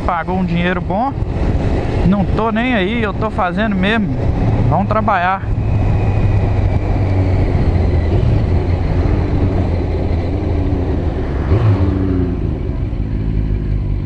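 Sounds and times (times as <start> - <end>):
wind noise: 0.0 - 13.3
motorcycle engine running: 0.0 - 14.0
road noise: 0.0 - 14.0.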